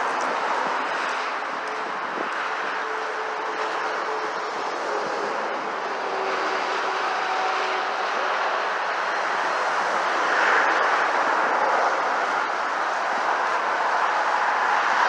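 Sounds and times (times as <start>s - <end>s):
highway traffic rushing: 0.0s - 15.0s.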